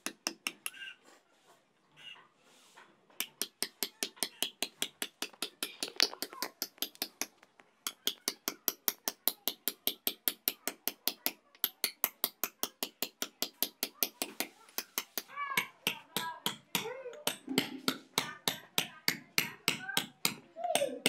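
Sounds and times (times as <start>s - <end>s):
hammer tapping chisel on stone: 0.0s - 0.8s, 3.2s - 21.0s.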